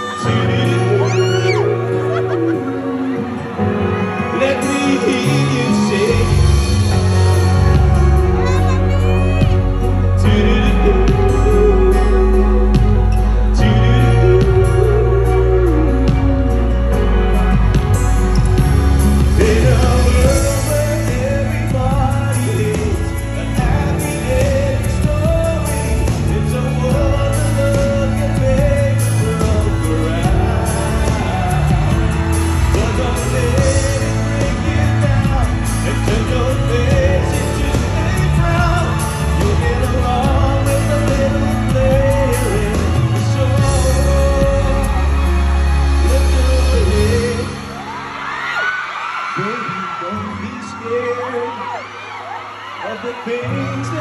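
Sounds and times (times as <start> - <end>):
pop song with singer: 0.0 - 54.0.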